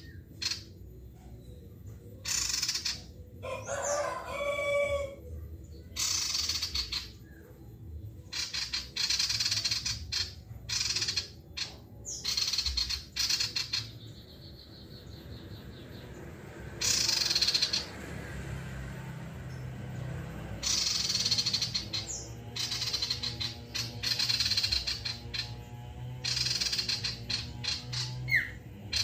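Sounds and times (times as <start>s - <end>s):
bird chattering song: 0.0s - 18.3s, 19.5s - 29.0s.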